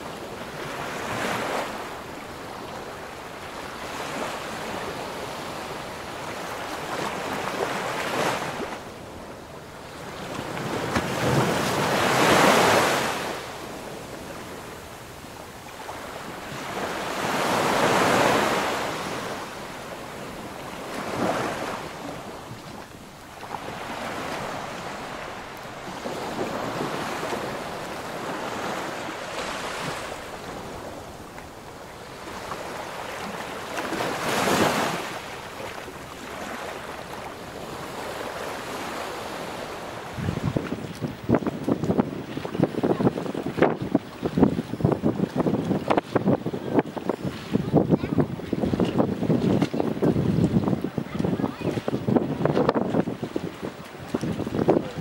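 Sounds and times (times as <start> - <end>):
small waves washing in: 0.0 - 55.0
wind on microphone: 0.0 - 55.0.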